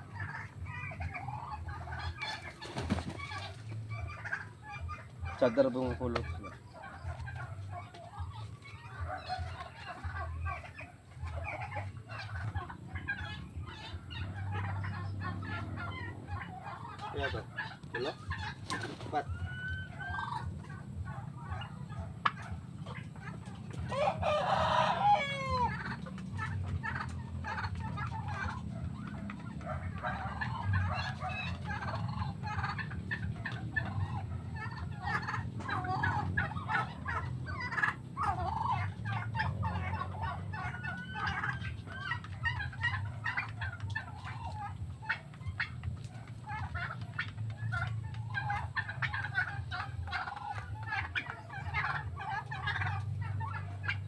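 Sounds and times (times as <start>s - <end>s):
poultry clucking and chirping: 0.0s - 54.0s
turkey drawn-out call: 0.0s - 54.0s.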